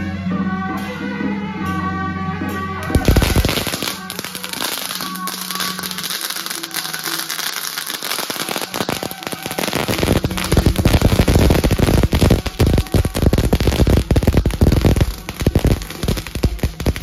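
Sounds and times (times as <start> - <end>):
firecrackers crackling: 2.8 - 17.0.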